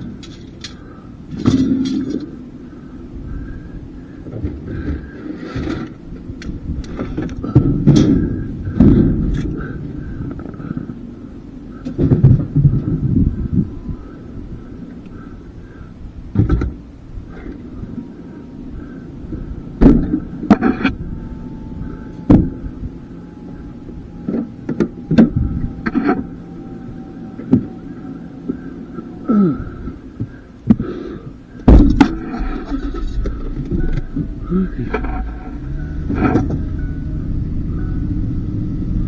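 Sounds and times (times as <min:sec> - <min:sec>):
knocks and clunks: 0:00.0 - 0:02.4, 0:04.3 - 0:11.0, 0:11.8 - 0:13.6, 0:16.3 - 0:18.1, 0:18.8 - 0:30.9, 0:31.6 - 0:38.2
steady low hum: 0:00.0 - 0:39.0.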